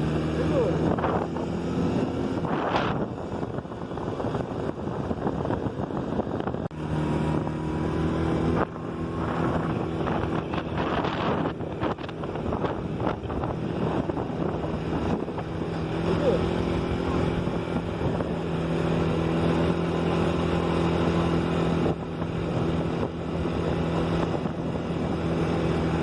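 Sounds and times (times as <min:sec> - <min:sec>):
quad bike engine running: 0:00.0 - 0:26.0
wind buffeting microphone: 0:00.0 - 0:26.0.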